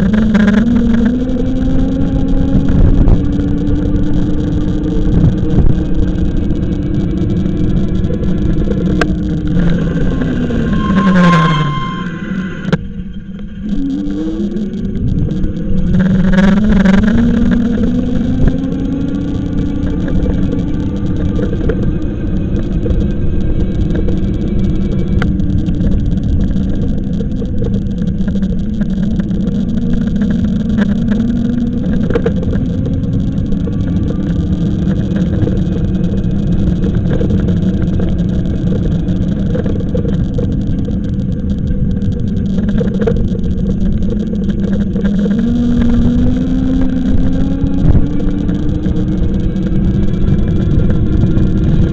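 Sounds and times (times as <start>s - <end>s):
electric bike motor humming: 0.0s - 51.9s
wind rumble on microphone: 0.0s - 51.9s.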